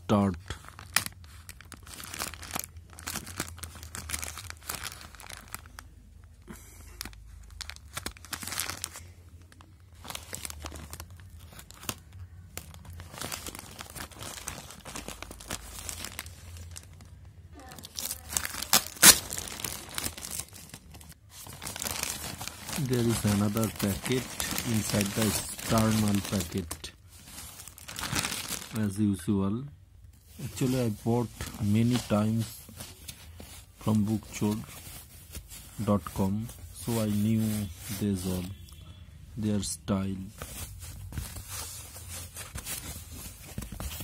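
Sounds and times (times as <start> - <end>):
plastic bag crinkling and ripping: 0.5 - 29.0, 30.3 - 38.6, 40.4 - 44.0.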